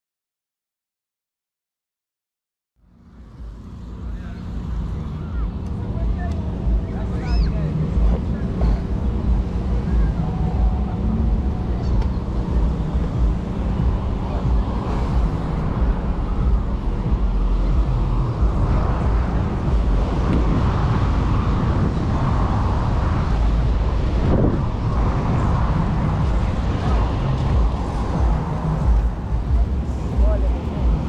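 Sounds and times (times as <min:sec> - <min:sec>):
passing traffic: 0:02.8 - 0:31.0
wind buffeting microphone: 0:03.0 - 0:31.0.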